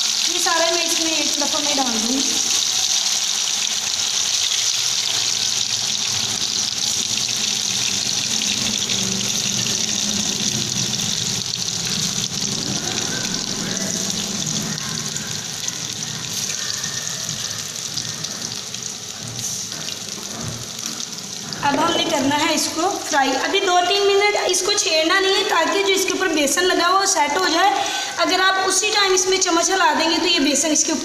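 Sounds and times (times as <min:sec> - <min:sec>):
chicken deep-frying in oil: 0:00.0 - 0:31.0.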